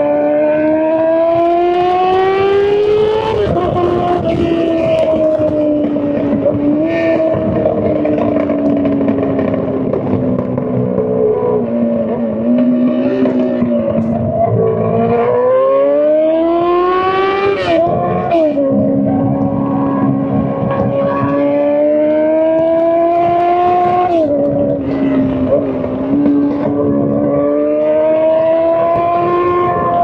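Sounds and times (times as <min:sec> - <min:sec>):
motorcycle engine revving high: 0:00.0 - 0:30.0.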